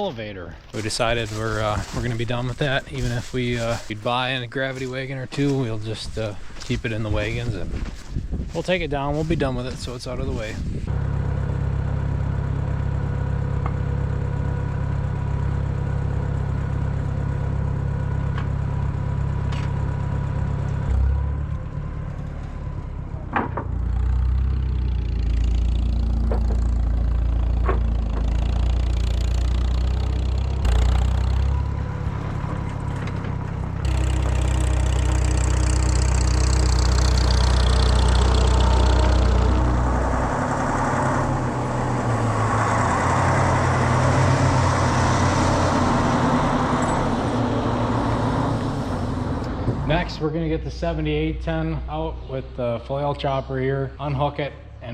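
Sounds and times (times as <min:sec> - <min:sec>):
farm machinery engine running: 0:00.0 - 0:51.3.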